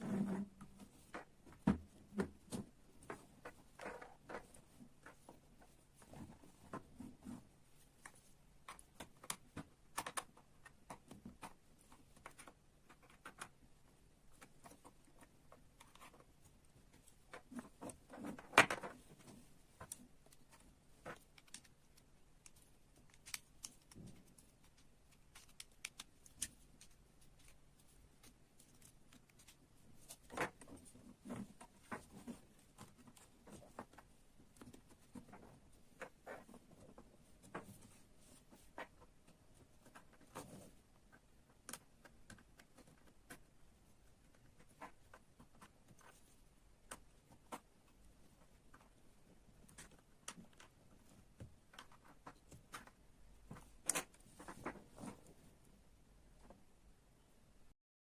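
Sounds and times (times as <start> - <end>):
light clicks and taps of small parts: 0.8 - 55.4.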